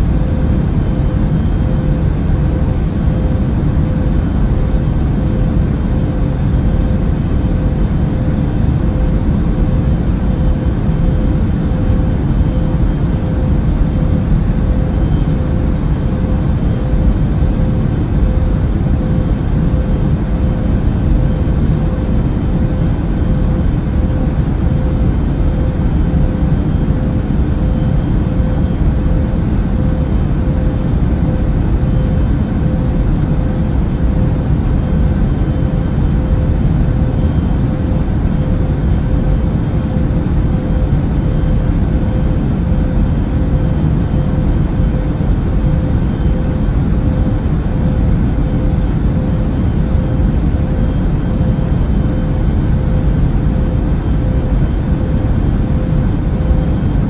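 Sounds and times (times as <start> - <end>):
airliner cabin engine noise: 0.0 - 57.0.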